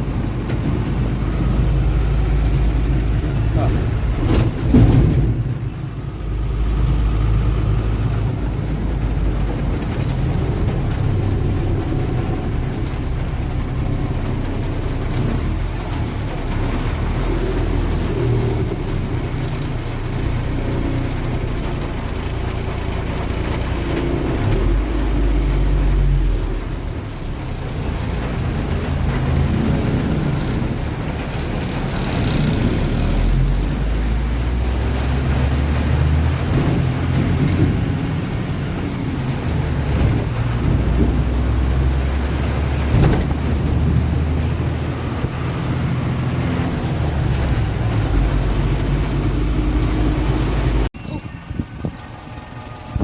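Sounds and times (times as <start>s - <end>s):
heavy diesel engine rumbling: 0.0s - 53.0s.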